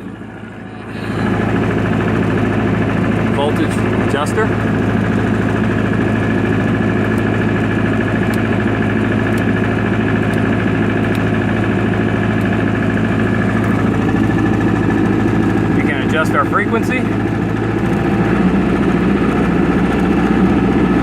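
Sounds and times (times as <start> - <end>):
diesel generator running: 0.0 - 21.0.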